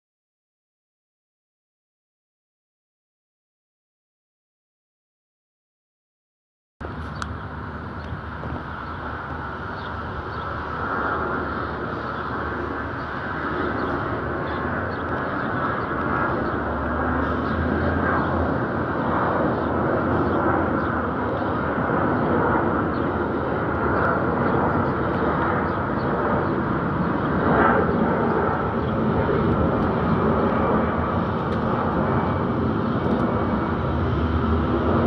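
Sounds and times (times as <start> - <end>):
airliner rumble overhead: 6.8 - 35.0.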